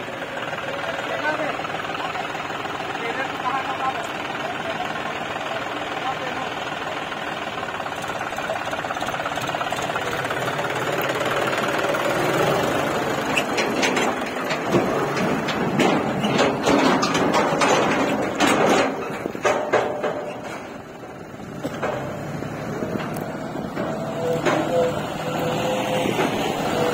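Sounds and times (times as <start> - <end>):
tractor diesel engine running: 0.0 - 26.9
trailer knocking and rattling: 0.0 - 26.9.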